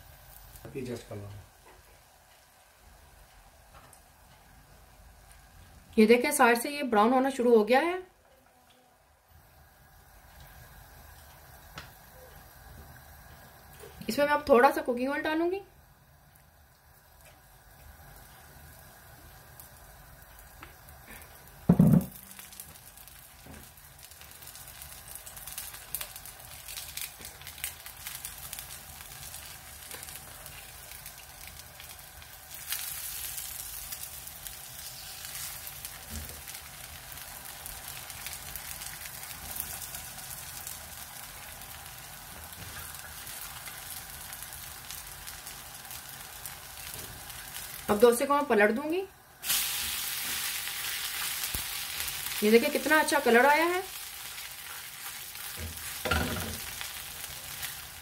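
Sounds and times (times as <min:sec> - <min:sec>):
oil sizzling and crackling: 0:00.0 - 0:08.0, 0:08.6 - 0:58.0.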